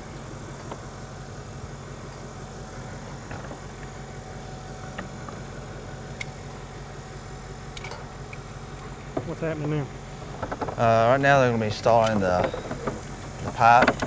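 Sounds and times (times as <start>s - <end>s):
engine idling hum: 0.0s - 14.0s.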